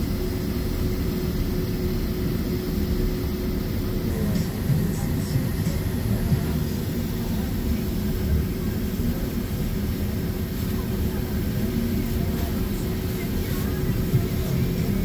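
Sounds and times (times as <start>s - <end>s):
aircraft cabin engine rumble: 0.0s - 15.0s
constant hum: 0.0s - 15.0s.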